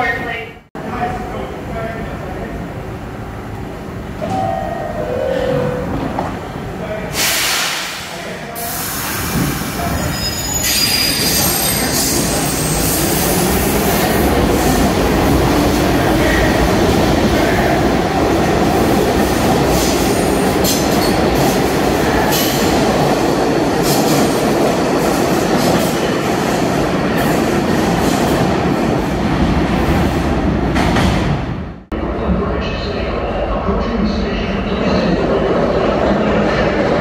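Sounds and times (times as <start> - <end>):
subway train rumbling: 0.0 - 37.0.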